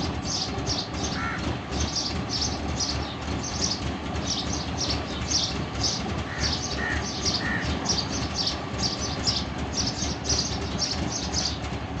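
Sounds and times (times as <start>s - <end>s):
engine idling unevenly and misfiring: 0.0s - 12.0s.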